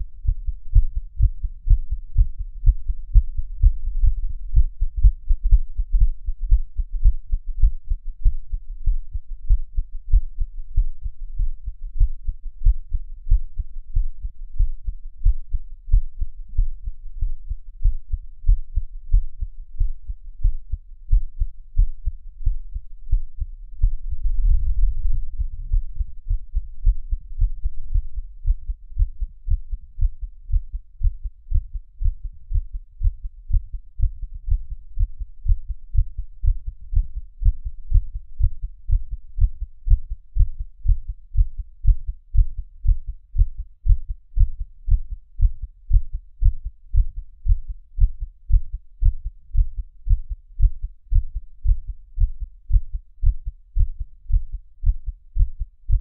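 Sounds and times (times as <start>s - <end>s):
heartbeat thumps: 0.0s - 56.0s.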